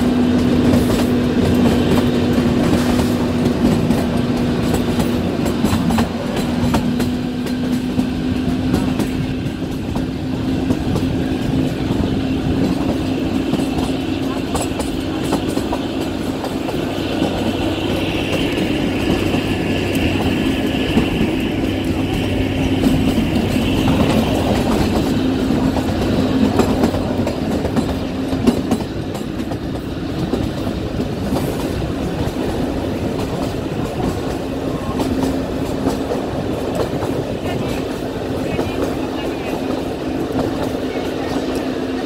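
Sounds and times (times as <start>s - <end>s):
train rumble with low hum: 0.0s - 42.0s
wheels clicking over rail joints: 0.0s - 42.0s.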